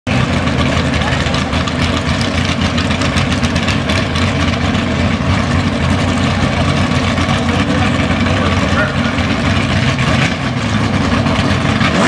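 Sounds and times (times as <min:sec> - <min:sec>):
low engine drone: 0:00.1 - 0:12.0.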